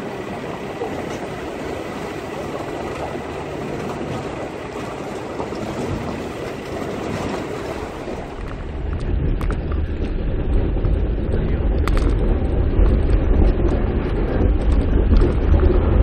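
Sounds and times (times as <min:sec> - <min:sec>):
vehicle driving on rough track: 0:00.0 - 0:16.0.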